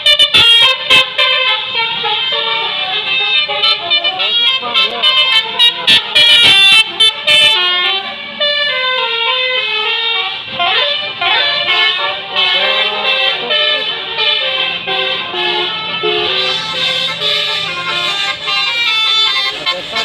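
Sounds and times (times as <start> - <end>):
bus engine running: 0.0 - 20.0
multi-tone bus horn tune: 0.0 - 20.0.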